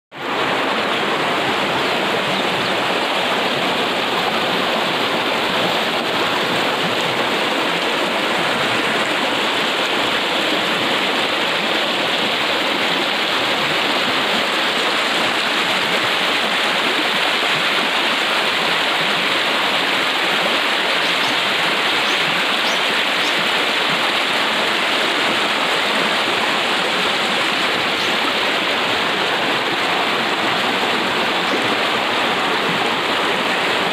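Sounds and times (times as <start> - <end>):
river rushing over rocks: 0.1 - 33.9.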